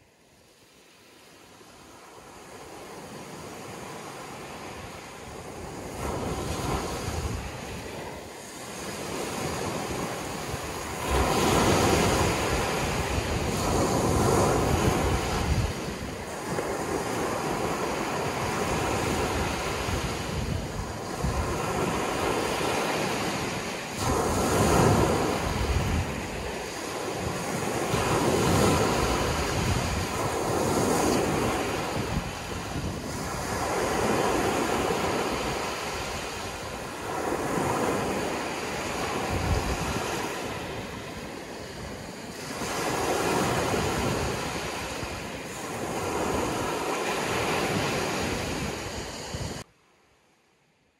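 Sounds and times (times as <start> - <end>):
ocean waves washing in: 0.0 - 49.7.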